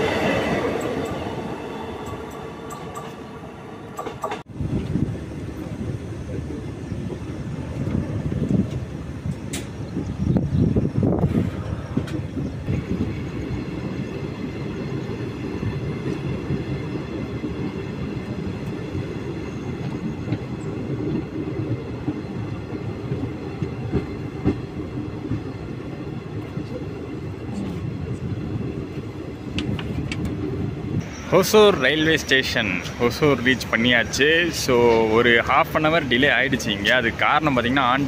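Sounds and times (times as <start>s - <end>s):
train wheels rumbling: 0.0s - 38.0s.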